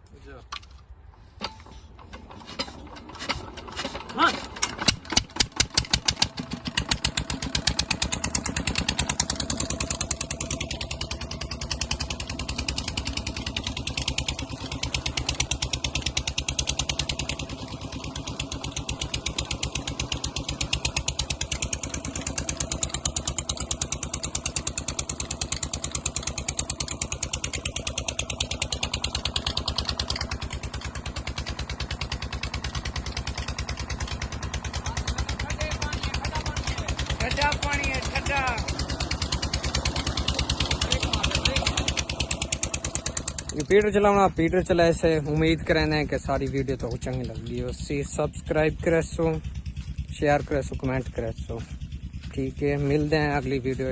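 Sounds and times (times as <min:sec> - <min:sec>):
diesel engine running: 0:00.2 - 0:53.9.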